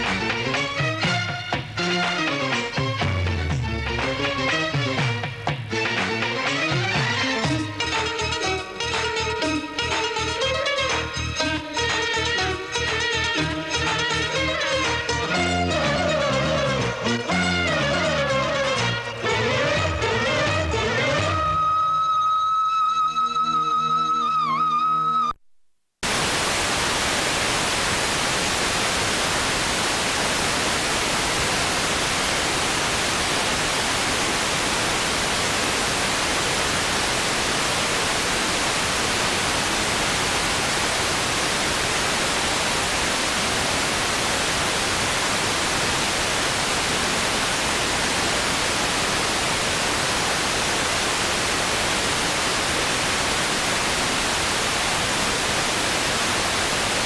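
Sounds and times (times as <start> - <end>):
static hiss: 0.0 - 25.4, 26.0 - 57.0.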